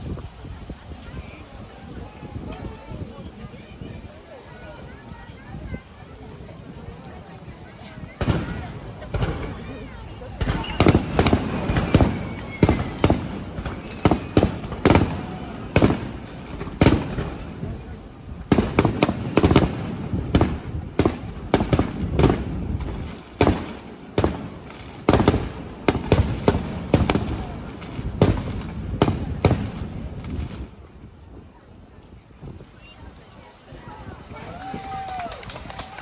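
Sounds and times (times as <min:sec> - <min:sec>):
fireworks shells bursting: 0:00.0 - 0:30.8.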